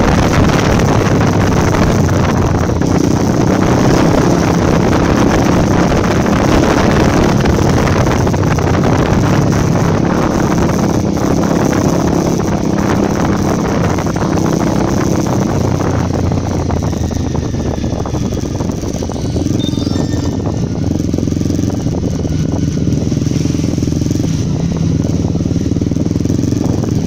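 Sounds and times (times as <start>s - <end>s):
motorcycle engine running: 0.0s - 27.0s
wind noise on microphone: 0.0s - 27.0s.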